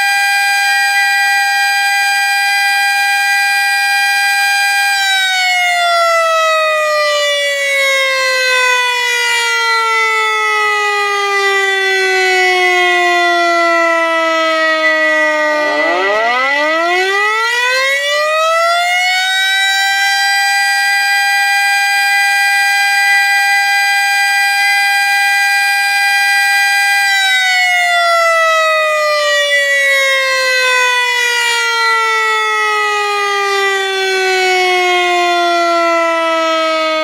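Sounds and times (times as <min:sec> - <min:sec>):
warning siren: 0:00.0 - 0:37.0.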